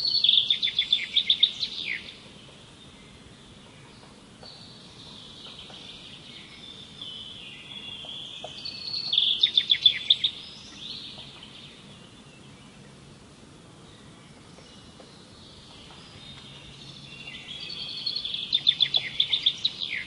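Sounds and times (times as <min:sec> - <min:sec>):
high-pitched bird chorus: 0:00.0 - 0:13.0, 0:13.9 - 0:20.0.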